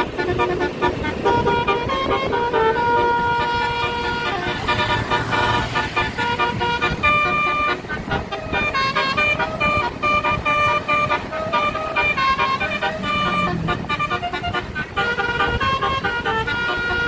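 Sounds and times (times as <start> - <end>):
musical air horn playing a tune: 0.0 - 17.0.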